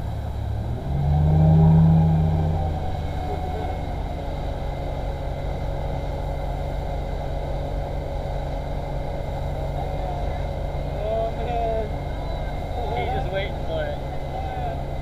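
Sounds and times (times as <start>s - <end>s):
churning boat wake: 0.0s - 15.0s
motorboat engine running: 0.0s - 15.0s.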